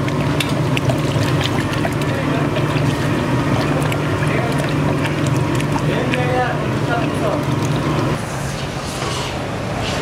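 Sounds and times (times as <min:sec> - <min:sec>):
spoon stirring in plastic jug: 0:00.0 - 0:08.2
steady low hum: 0:00.0 - 0:09.8.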